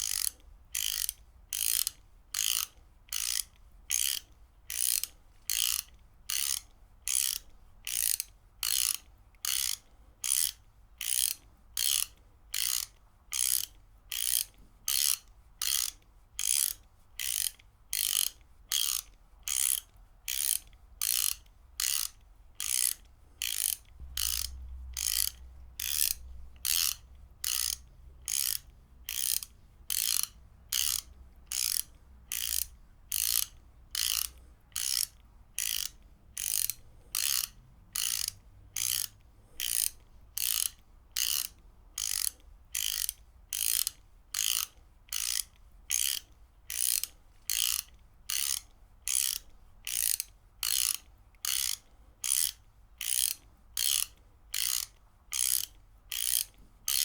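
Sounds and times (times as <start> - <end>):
ratchet wrench clicking: 0.0 - 57.0.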